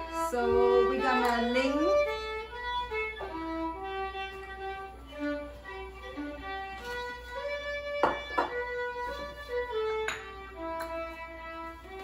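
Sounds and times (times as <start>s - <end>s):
violin melody: 0.0s - 12.0s.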